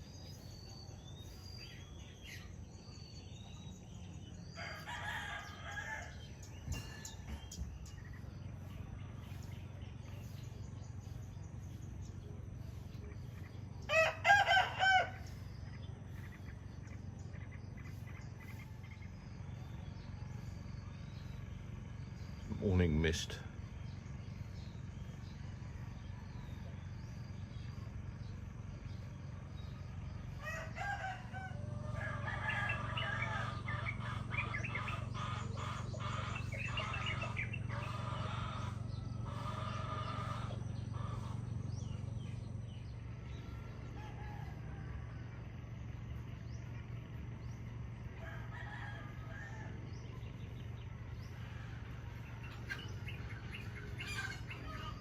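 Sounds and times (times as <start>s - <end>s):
roosters crowing: 0.0s - 55.0s
steady low hum: 0.0s - 55.0s.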